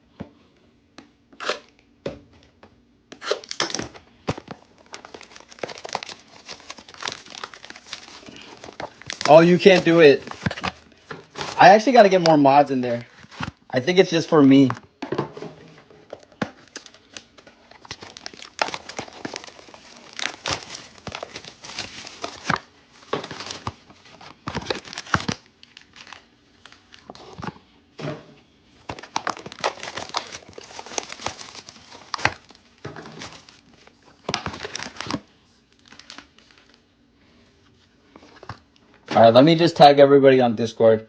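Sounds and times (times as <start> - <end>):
foil and plastic packaging crinkling: 3.2 - 27.6, 28.7 - 39.6.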